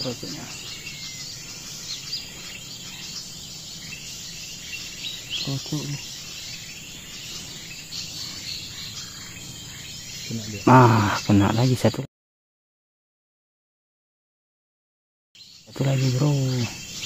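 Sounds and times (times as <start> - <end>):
high insect drone: 0.0 - 12.0, 15.4 - 17.0
songbirds chirping: 0.0 - 12.1, 15.4 - 17.0.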